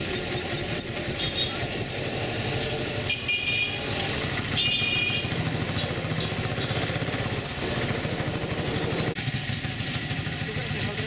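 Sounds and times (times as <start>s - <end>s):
auto-rickshaw engine puttering: 0.0s - 11.0s
street traffic: 0.0s - 11.0s.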